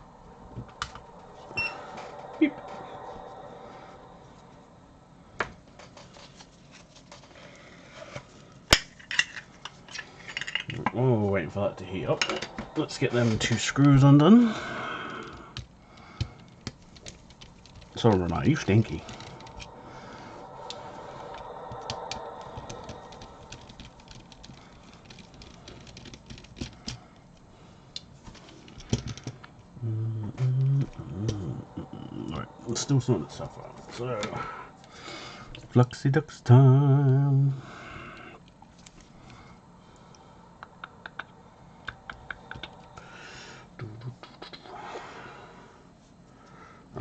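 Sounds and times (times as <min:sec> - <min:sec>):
faint hum: 0:00.0 - 0:47.0.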